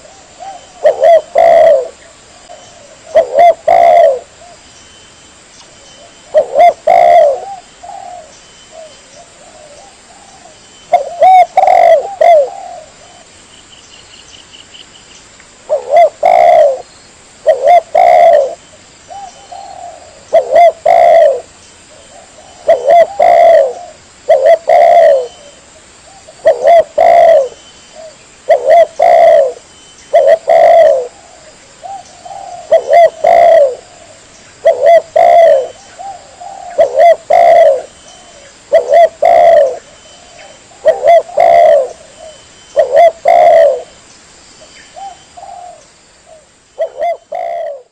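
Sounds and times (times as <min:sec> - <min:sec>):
dove cooing: 0:00.0 - 0:04.6, 0:06.0 - 0:13.3, 0:15.7 - 0:44.0, 0:44.9 - 0:47.9.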